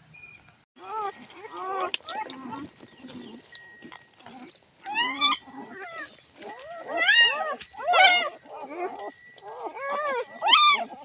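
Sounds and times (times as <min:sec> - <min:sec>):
puppies whining and yelping: 0:00.8 - 0:11.0.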